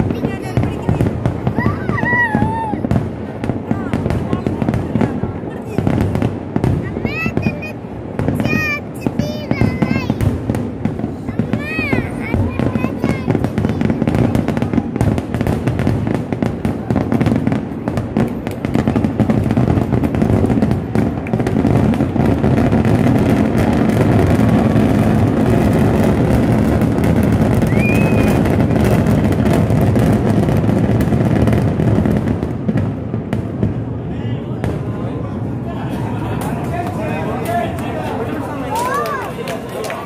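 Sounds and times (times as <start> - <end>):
fireworks exploding and crackling: 0.0 - 40.0.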